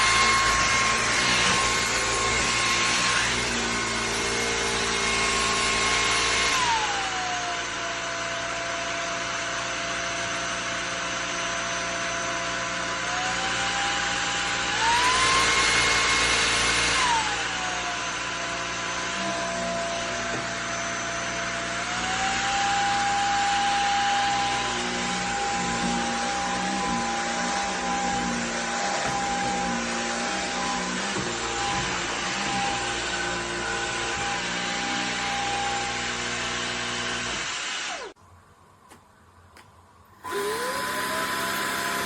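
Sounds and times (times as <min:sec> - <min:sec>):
stick vacuum motor whine: 0:00.0 - 0:10.4, 0:11.1 - 0:38.2, 0:40.2 - 0:42.0.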